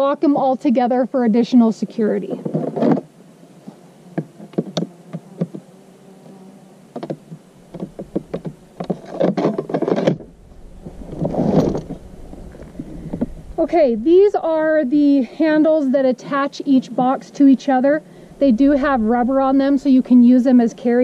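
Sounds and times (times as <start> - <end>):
buzzing insect: 0.1 - 21.0.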